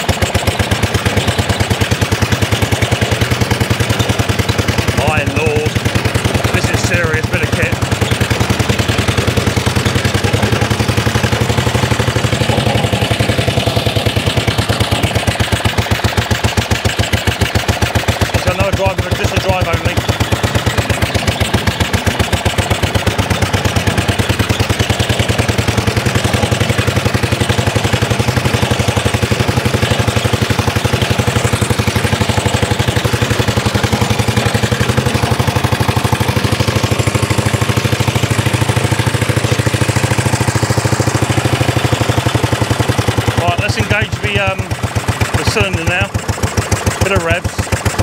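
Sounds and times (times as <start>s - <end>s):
lawn mower engine running: 0.0s - 48.0s.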